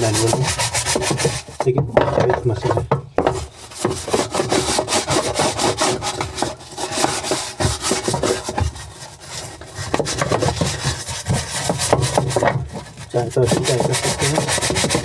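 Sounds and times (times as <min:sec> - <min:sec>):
scrubbing on hard plastic: 0:00.0 - 0:15.0.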